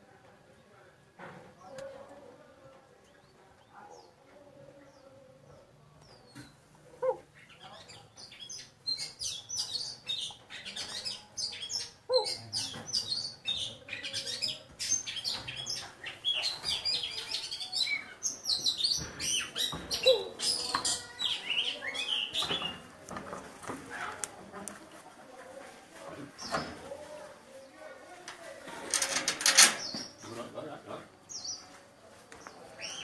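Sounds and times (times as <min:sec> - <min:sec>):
birds chirping and twittering: 0:02.9 - 0:24.2, 0:26.4 - 0:27.8, 0:28.9 - 0:33.0.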